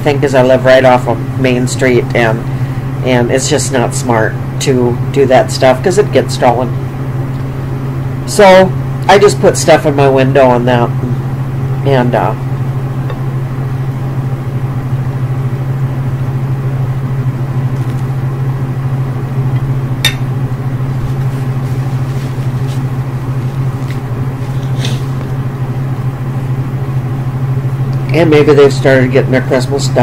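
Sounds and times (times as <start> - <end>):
furnace humming: 0.0 - 30.0.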